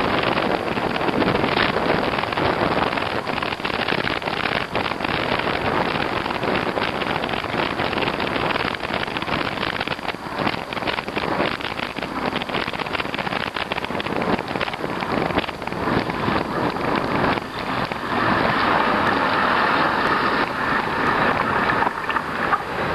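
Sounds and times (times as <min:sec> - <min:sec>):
wind on microphone: 0:00.0 - 0:22.9.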